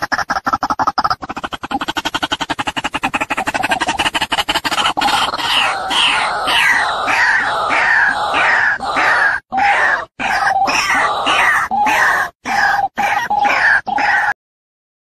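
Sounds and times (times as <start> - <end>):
waterhen calling harsh croaks: 0.0 - 14.4.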